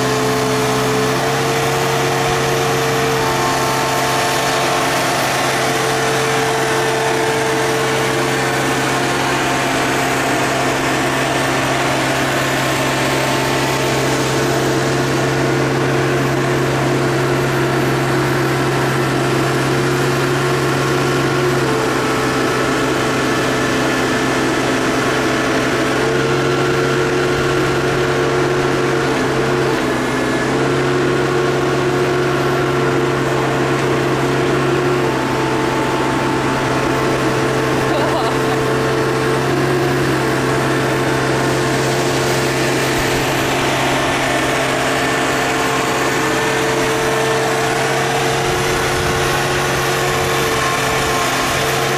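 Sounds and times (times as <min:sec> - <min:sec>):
grapple loader hydraulics humming: 0:00.0 - 0:51.9.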